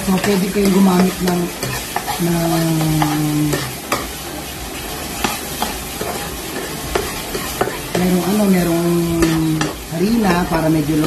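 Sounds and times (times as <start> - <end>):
sauce sizzling: 0.0 - 11.0
spatula scraping frying pan: 0.0 - 11.0.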